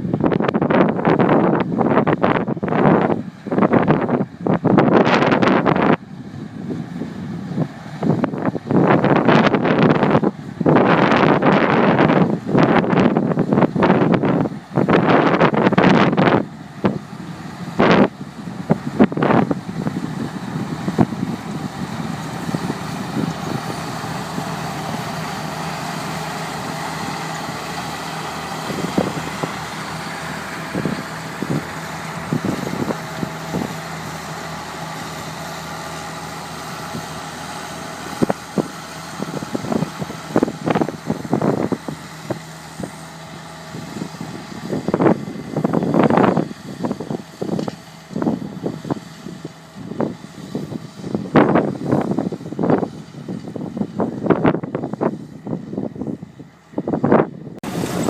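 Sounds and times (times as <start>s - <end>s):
tractor engine running: 0.0s - 58.0s
wind buffeting microphone: 0.0s - 58.0s.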